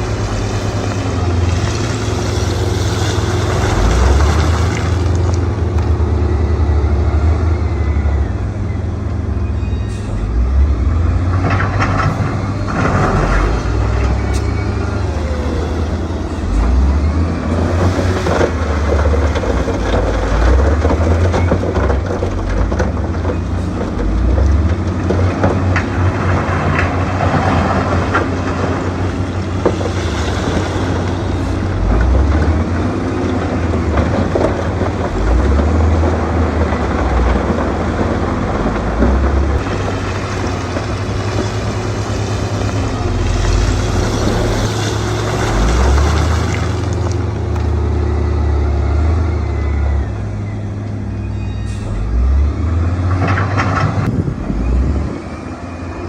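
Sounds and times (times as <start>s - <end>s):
diesel machinery engine rumble: 0.0s - 56.0s.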